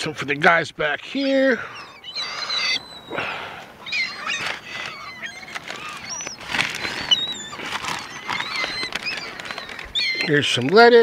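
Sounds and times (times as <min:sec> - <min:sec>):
seagulls crying: 0:00.8 - 0:11.0.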